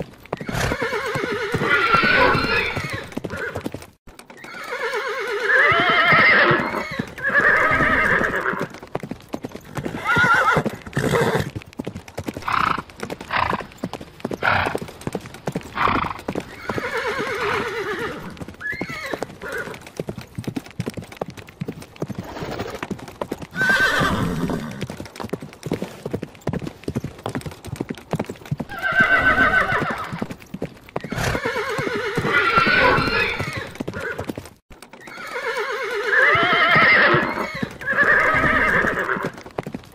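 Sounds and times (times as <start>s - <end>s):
hooves clip-clopping: 0.0s - 39.9s
horses neighing: 0.3s - 11.6s, 12.2s - 20.0s, 22.0s - 25.0s, 28.6s - 39.5s.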